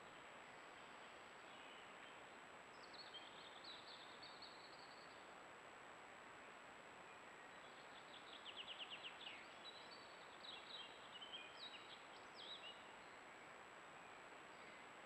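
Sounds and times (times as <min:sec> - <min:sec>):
songbird singing faintly: 0:00.0 - 0:15.0.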